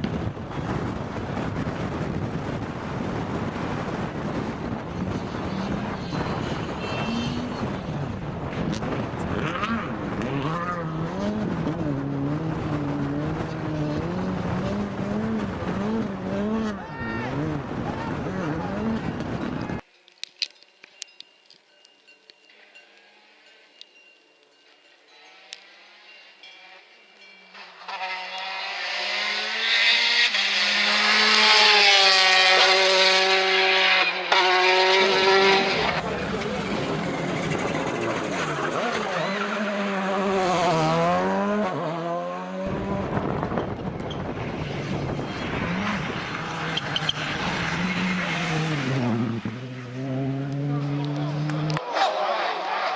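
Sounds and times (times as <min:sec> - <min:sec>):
rally car engine revving: 0:00.0 - 0:19.8, 0:27.5 - 0:52.9.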